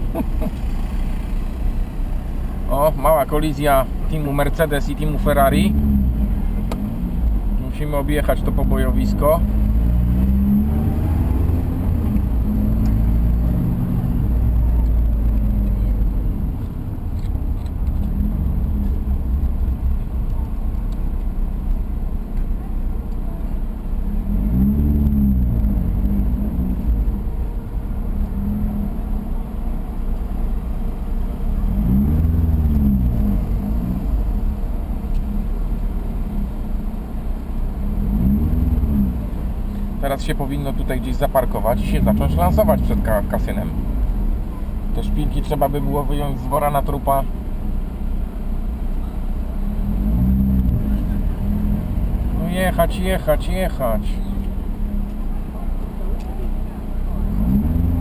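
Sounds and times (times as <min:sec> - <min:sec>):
car engine from inside: 0:00.0 - 0:58.0.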